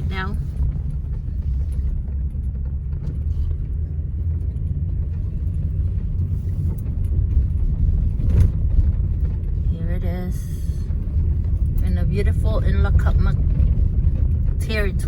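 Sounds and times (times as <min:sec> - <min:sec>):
car driving: 0:00.0 - 0:15.0.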